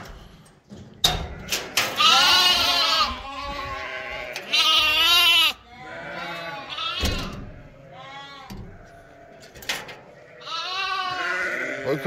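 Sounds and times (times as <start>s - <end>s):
sheep bleating: 1.4s - 9.5s, 10.1s - 12.0s.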